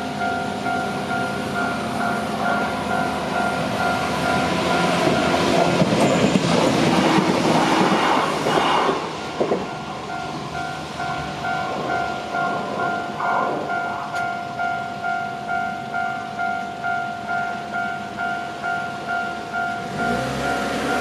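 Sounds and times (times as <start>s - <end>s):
electric train rumble: 0.0s - 21.0s
level-crossing warning bell: 0.0s - 21.0s.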